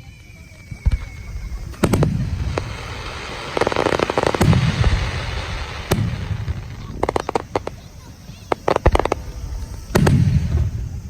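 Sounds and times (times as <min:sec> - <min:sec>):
fireworks bangs and booms: 0:00.0 - 0:11.0
fireworks crackling: 0:00.0 - 0:11.0.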